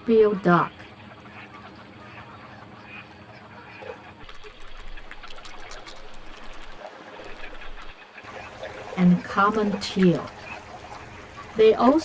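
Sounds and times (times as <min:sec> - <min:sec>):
faint bird calls: 0:00.0 - 0:12.0
water splashing and trickling: 0:00.0 - 0:12.0.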